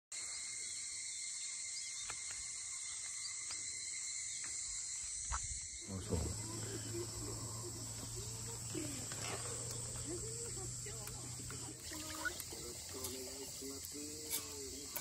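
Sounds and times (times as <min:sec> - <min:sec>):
high-pitched insect chorus: 0:00.1 - 0:15.0.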